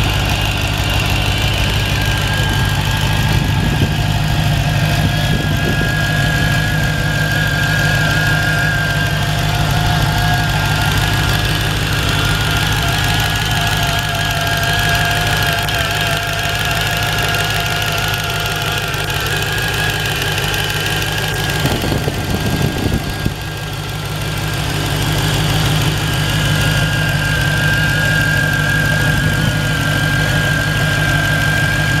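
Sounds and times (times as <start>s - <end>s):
car engine idling: 0.0s - 32.0s
supercharger whine: 0.0s - 32.0s.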